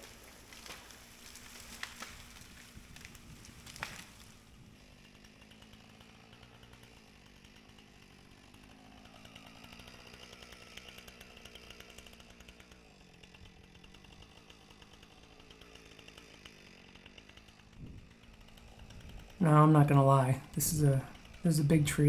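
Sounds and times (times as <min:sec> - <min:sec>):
faint chainsaw running: 0:00.0 - 0:22.0.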